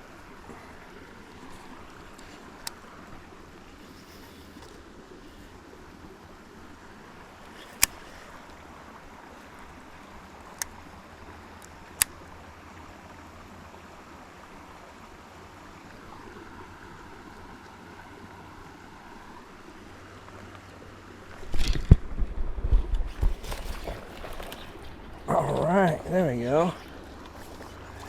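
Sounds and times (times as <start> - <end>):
faint outdoor background noise: 0.0 - 28.0.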